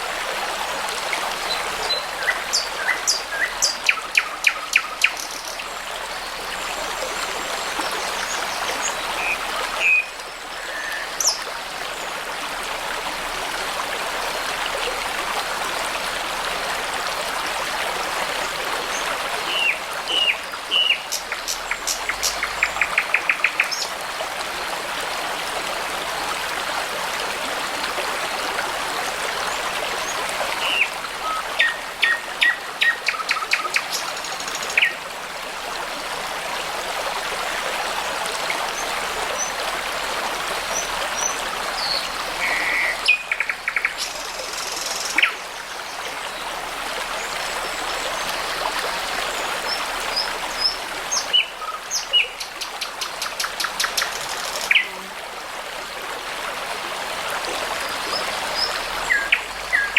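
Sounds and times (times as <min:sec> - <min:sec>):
brook babbling: 0:00.0 - 0:59.9.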